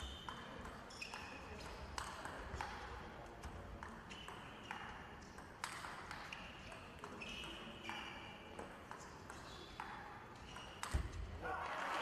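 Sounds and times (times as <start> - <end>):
table tennis ball hits: 0.2 - 11.3.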